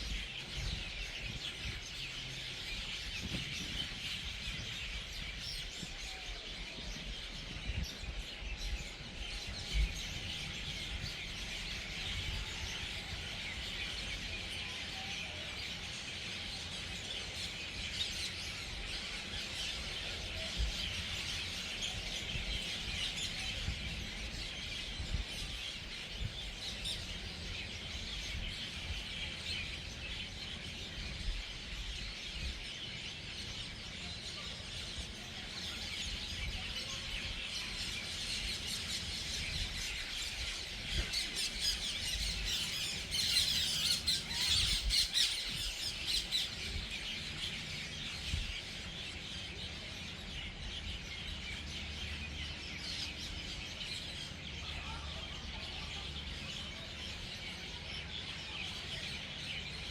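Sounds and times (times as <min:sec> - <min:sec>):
flock of birds chirping: 0:00.0 - 0:59.9.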